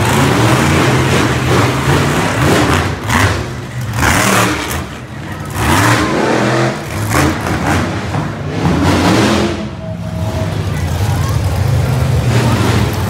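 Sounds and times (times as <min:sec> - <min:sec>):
monster truck engines revving: 0:00.0 - 0:13.0.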